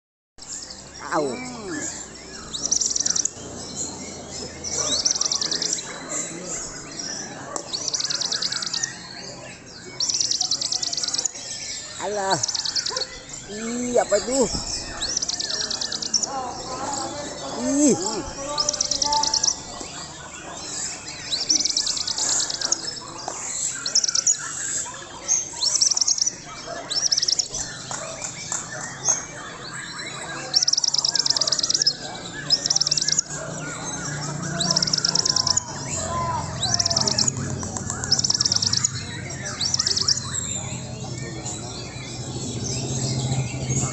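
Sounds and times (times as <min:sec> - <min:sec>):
songbird singing high repeated notes: 0:00.4 - 0:43.9.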